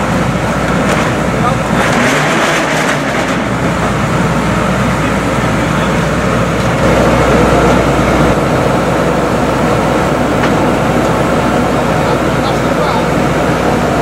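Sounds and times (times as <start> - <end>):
deep rumble: 0.0 - 14.0
truck engine running: 0.0 - 14.0.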